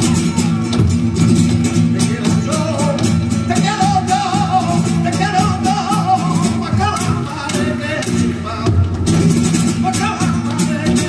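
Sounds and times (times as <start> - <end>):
nylon-string guitar: 0.0 - 11.0.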